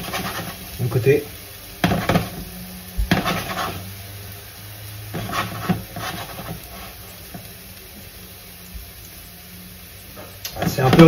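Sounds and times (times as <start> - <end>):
pancake sizzling in oil: 0.0 - 11.0.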